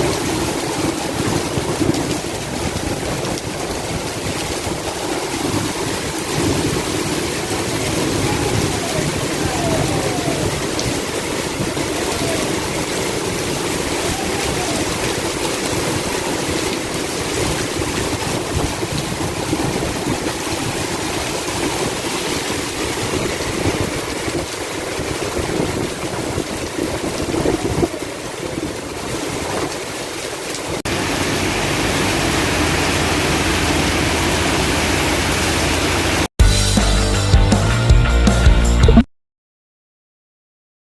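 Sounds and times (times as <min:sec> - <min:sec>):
heavy rain: 0:00.0 - 0:36.3
running water: 0:00.0 - 0:36.3.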